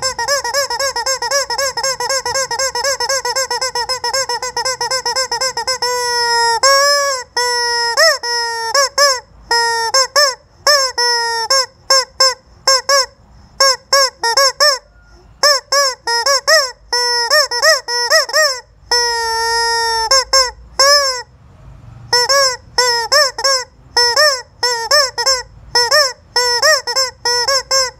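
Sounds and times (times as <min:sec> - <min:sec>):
rubber chicken toy squawking: 0:00.0 - 0:21.3, 0:22.1 - 0:27.9.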